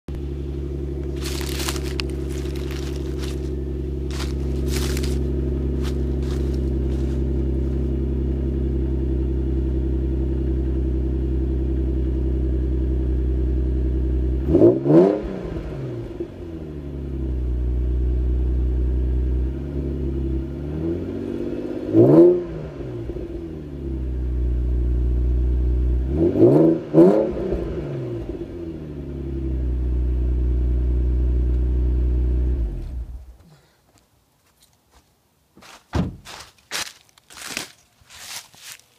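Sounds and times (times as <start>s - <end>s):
car engine idling and revving: 0.1s - 33.5s.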